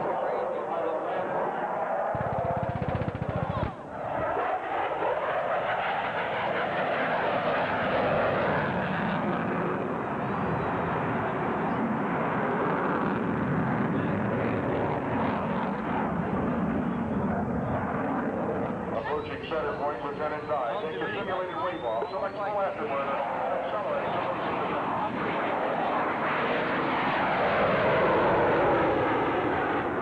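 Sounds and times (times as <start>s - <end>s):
jet engines rushing: 0.0s - 30.0s.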